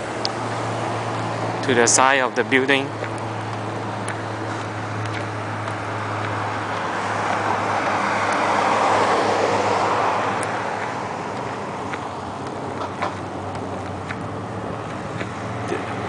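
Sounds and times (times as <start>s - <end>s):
road traffic noise: 0.0s - 16.0s
vehicle passing by: 0.0s - 16.0s.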